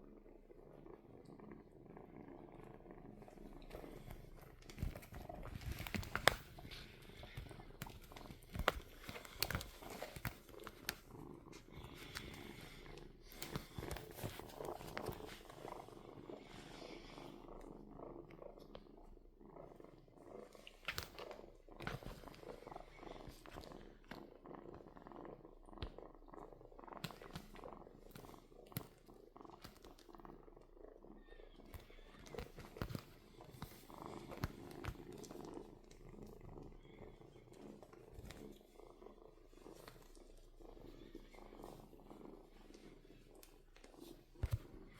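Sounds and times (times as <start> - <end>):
kitten purring: 0.0 - 44.9
small clicks and rustles: 2.4 - 44.9.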